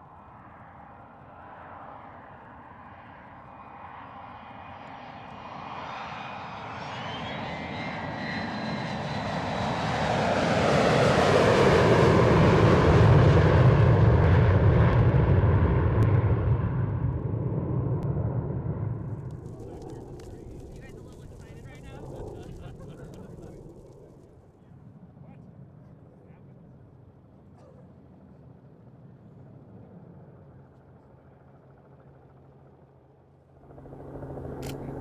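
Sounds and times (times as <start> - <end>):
aircraft engine passing: 0.0 - 24.8, 31.2 - 35.0.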